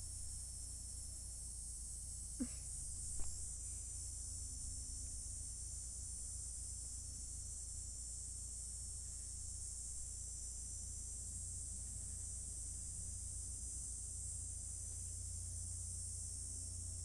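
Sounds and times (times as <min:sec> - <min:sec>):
insects droning: 0:00.0 - 0:17.0
low hum: 0:00.0 - 0:17.0.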